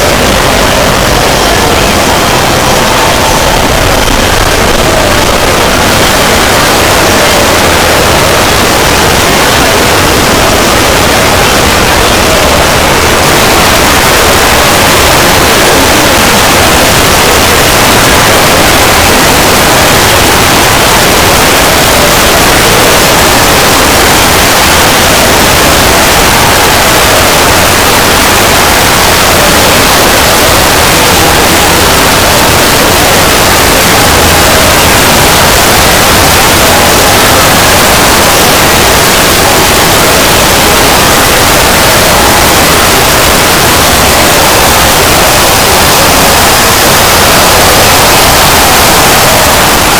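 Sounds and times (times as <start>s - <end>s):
static white noise: 0.0s - 49.9s.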